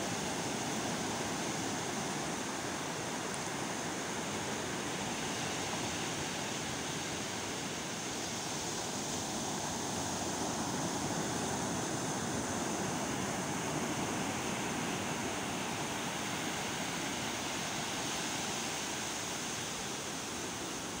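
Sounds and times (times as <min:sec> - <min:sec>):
waves breaking on beach: 0:00.0 - 0:21.0.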